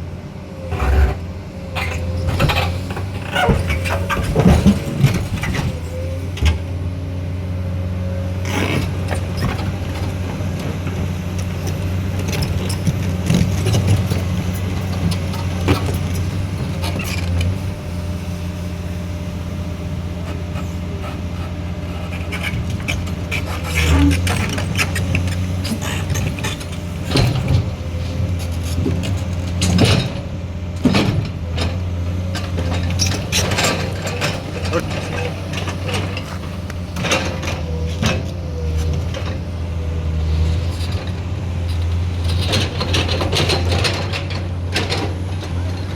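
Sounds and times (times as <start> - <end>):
heavy machine engine droning: 0.0 - 45.9.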